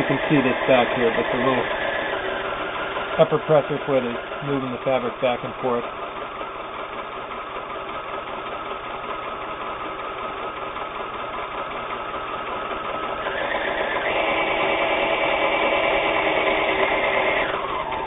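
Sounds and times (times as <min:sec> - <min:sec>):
sewing machine stitching: 0:00.0 - 0:18.0.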